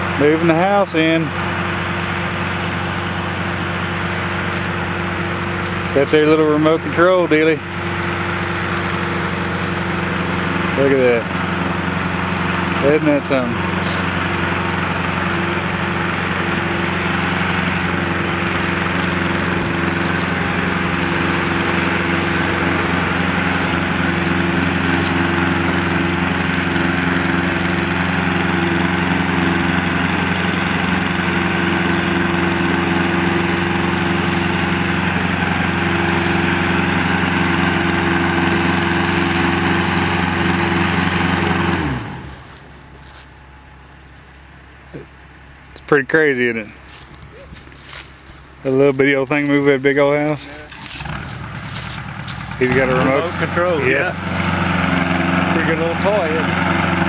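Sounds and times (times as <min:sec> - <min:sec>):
small tracked crawler engine: 0:00.0 - 0:57.0.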